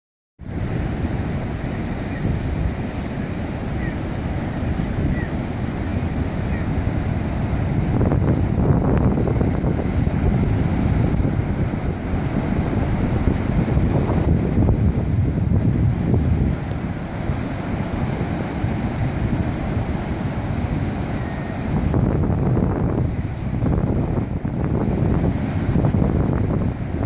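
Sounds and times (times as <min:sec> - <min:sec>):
ocean surf breaking: 0:00.4 - 0:27.0
wind buffeting microphone: 0:00.5 - 0:27.0.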